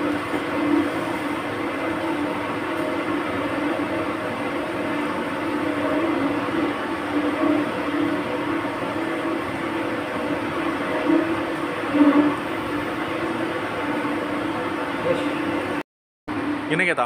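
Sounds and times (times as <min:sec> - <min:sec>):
mechanical drone with low hum: 0:00.0 - 0:17.0.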